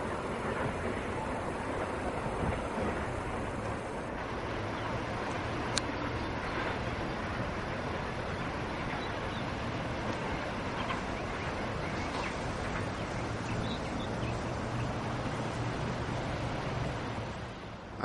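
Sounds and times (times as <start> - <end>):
distant train rumble: 0.0 - 18.0.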